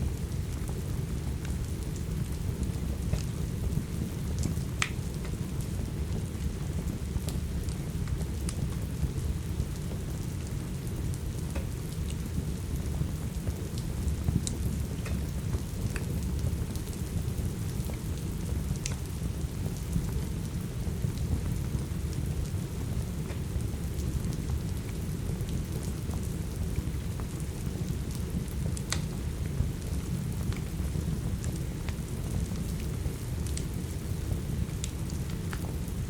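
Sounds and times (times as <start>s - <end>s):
sharp crackles and pops: 0.0s - 36.0s
steady rain: 0.0s - 36.0s.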